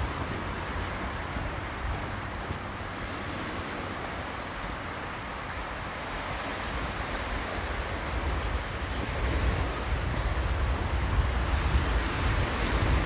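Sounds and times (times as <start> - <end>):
small waves on a pebbly shore: 0.0 - 13.0
wind buffeting the microphone: 0.0 - 13.0.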